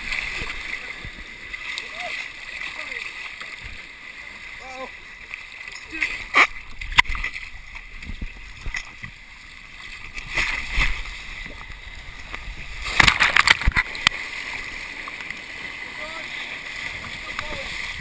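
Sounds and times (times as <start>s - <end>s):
splashing: 0.0s - 18.0s
water rushing down a waterslide: 0.0s - 18.0s.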